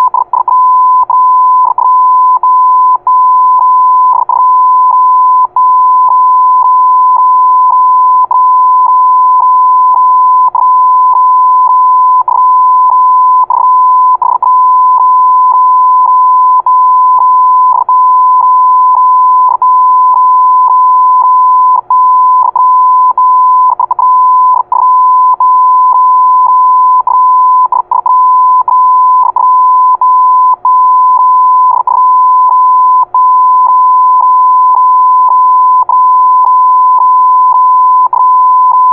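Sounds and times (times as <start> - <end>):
morse code beep tone: 0.0 - 38.9.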